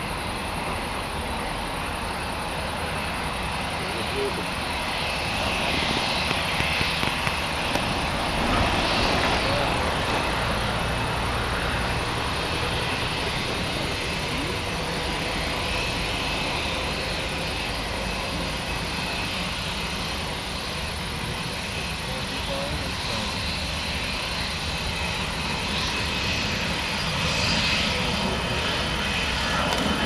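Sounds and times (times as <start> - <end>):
jet engines whining at idle: 0.0 - 30.0.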